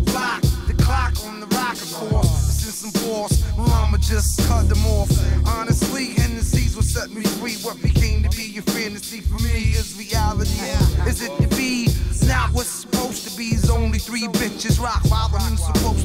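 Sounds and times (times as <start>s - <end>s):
heavy bass: 0.0s - 16.0s
rapping over a beat: 0.0s - 16.0s.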